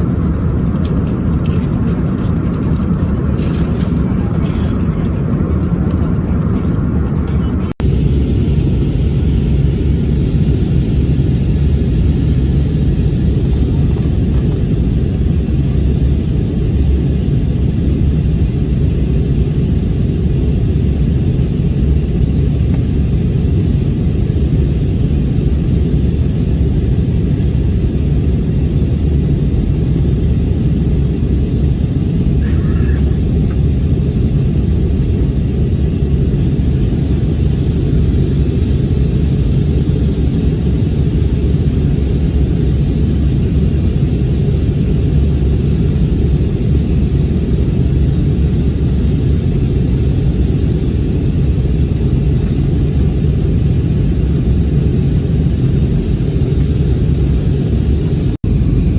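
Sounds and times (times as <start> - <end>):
airplane cabin rumble: 0.0 - 58.9.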